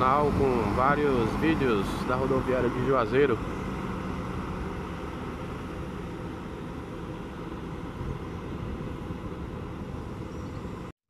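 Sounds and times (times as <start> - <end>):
diesel coach engine rumbling: 0.0 - 10.9.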